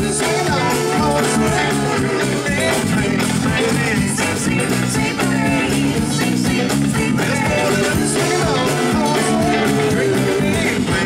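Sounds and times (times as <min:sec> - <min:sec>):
bass guitar: 0:00.0 - 0:11.0
drum kit beat: 0:00.0 - 0:11.0
electric guitars: 0:00.0 - 0:11.0
person singing: 0:00.0 - 0:11.0.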